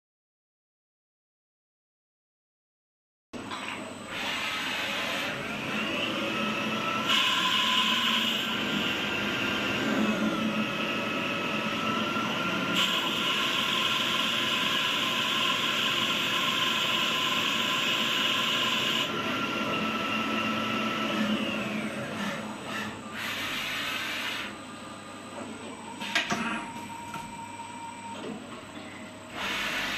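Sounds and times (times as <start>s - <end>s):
lathe machine whine: 4.1s - 28.2s, 28.9s - 29.9s.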